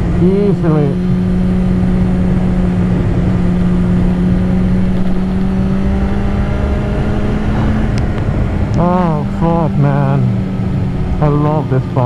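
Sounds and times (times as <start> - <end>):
wind rumble on microphone: 0.0 - 11.6
motorcycle engine at steady revs: 0.0 - 12.0.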